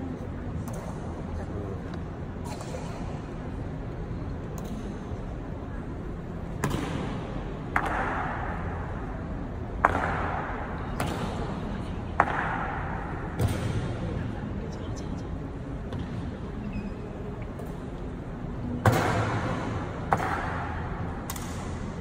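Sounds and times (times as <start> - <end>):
low crowd murmur: 0.0 - 22.0.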